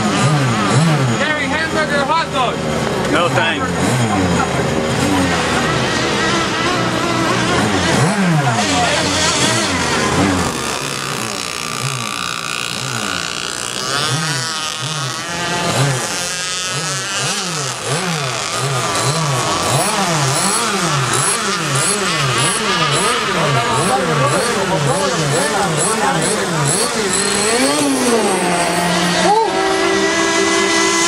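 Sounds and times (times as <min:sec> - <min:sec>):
model boat engine running hard: 0:00.0 - 0:31.0.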